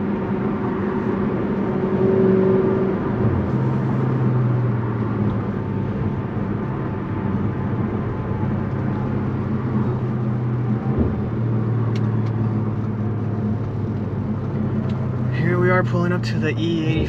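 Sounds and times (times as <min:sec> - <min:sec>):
car engine running: 0:00.0 - 0:17.0
tyre and road noise: 0:00.0 - 0:17.0.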